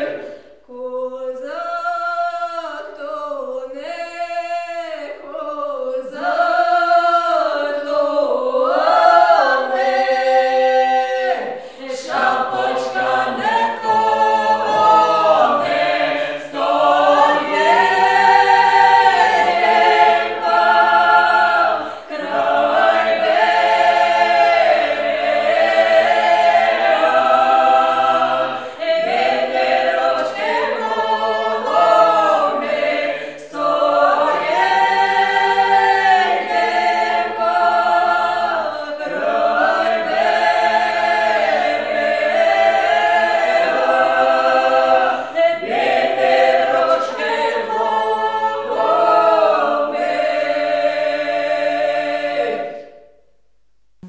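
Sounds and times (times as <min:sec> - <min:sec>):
choir singing a cappella: 0:00.0 - 0:53.3.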